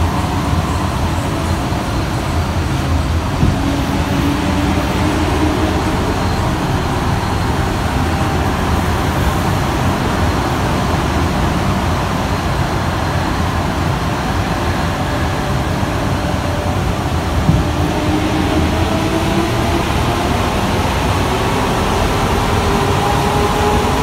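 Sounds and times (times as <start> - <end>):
metro car rumble: 0.0 - 24.0.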